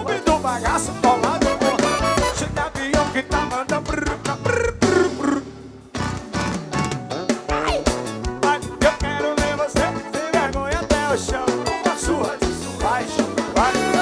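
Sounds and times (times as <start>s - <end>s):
lead melody line: 0.0s - 5.3s, 6.0s - 14.0s
drum beat: 0.0s - 14.0s.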